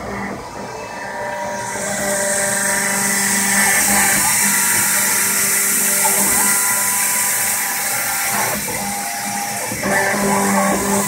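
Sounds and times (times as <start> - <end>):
dust extraction vacuum: 0.0 - 11.0
engraving spindle high-pitched hiss: 1.4 - 11.0.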